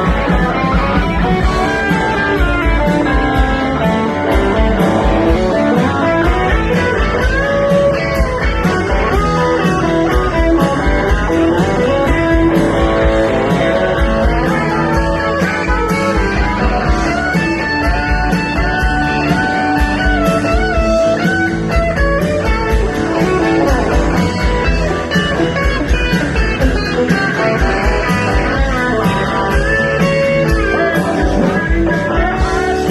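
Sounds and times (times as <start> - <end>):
bass guitar: 0.0 - 32.9
drum beat: 0.0 - 32.9
lead electric guitar: 0.0 - 32.9.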